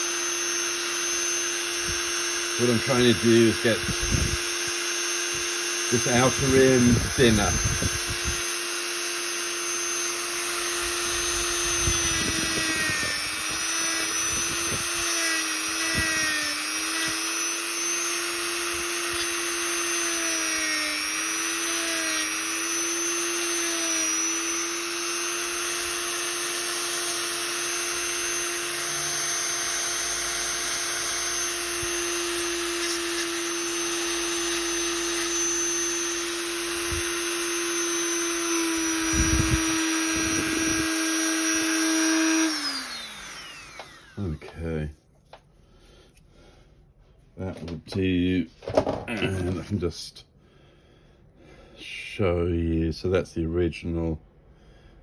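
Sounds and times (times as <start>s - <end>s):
rotary tool grinding whine: 0.0s - 45.4s, 47.5s - 49.8s.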